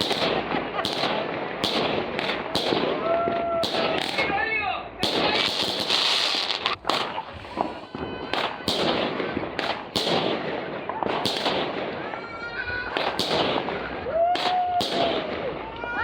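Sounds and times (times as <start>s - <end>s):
fireworks bursting bangs: 0.0s - 4.4s, 5.0s - 16.0s
fireworks crackling: 0.0s - 4.4s, 5.0s - 16.0s.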